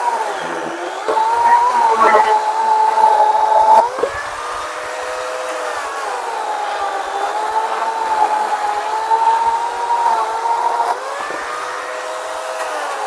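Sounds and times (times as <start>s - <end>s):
small gasoline saw engine cutting wood: 0.0s - 13.0s.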